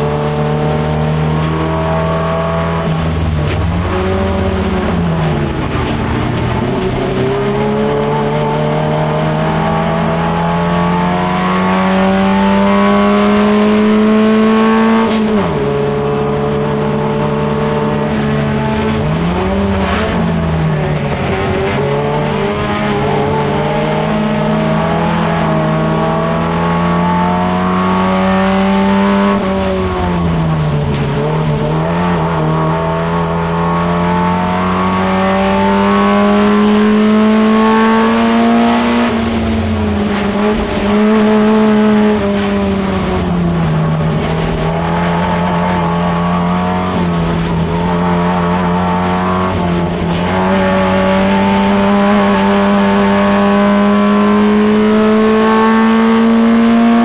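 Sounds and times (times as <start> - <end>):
race car engine from inside cabin: 0.0 - 57.0.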